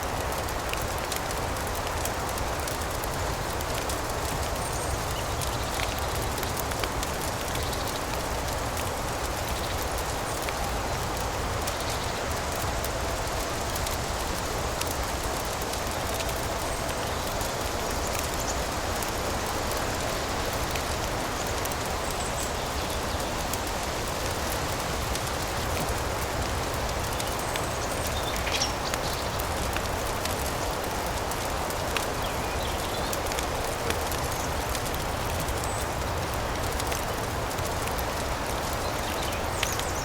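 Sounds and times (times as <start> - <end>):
small scattered crackles: 0.0 - 40.0
steady rain: 0.0 - 40.0.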